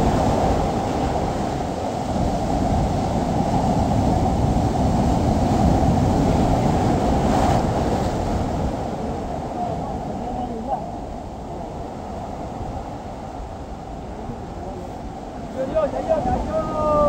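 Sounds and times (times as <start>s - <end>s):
sea wash: 0.0s - 17.0s
wind buffeting microphone: 0.0s - 17.0s.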